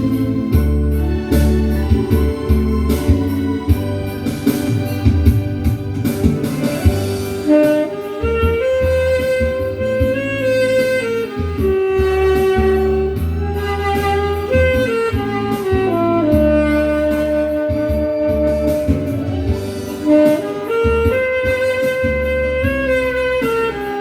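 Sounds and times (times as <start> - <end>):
bass line: 0.0 - 24.0
tenor saxophone melody: 0.0 - 24.0.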